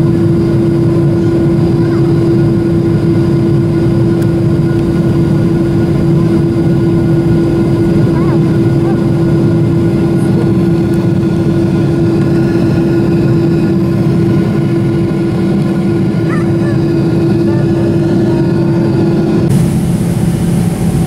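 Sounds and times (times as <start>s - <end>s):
jet engines droning in cabin: 0.0s - 21.0s
steady hum note: 2.8s - 21.0s.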